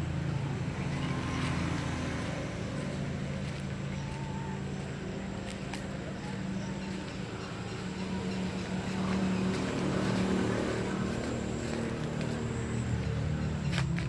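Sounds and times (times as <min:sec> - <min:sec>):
truck diesel engine droning: 0:00.0 - 0:14.0.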